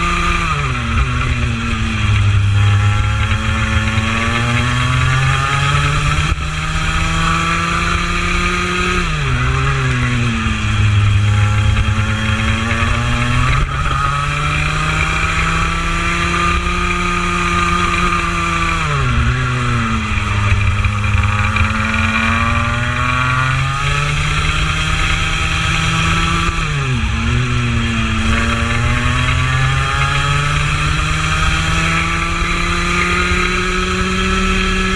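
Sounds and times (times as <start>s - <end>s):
kart engine at full throttle: 0.0s - 34.9s.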